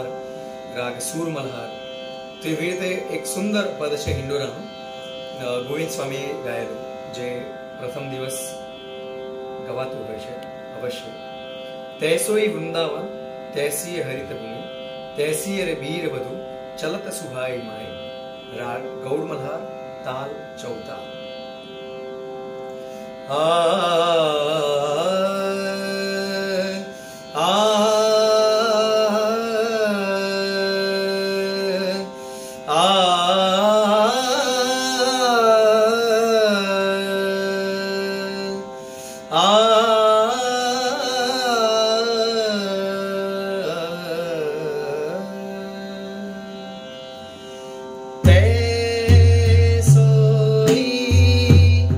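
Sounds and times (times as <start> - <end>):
man singing devotional music: 0.0 - 51.9.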